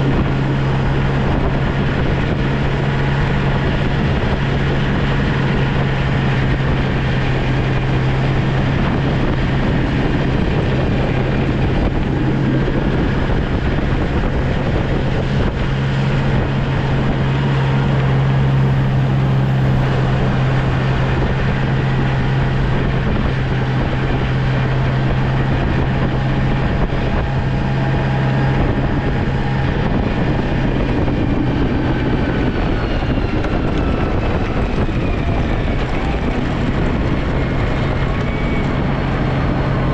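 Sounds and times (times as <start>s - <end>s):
constant low hum: 0.0s - 39.9s
mechanical and road noise: 0.0s - 39.9s
snow plow engine running: 0.0s - 39.9s.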